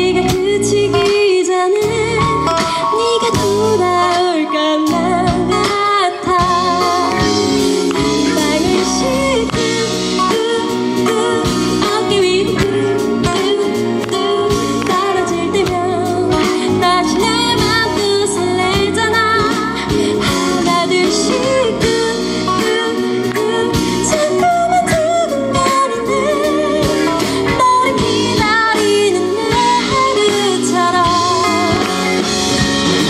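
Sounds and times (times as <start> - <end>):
woman singing into microphone: 0.0 - 32.3
pop band playing: 0.0 - 33.0.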